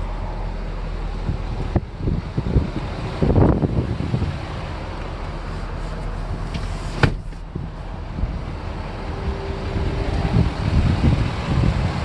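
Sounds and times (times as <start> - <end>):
diesel engine rumbling: 0.0 - 12.0
wind buffeting microphone: 0.0 - 12.0.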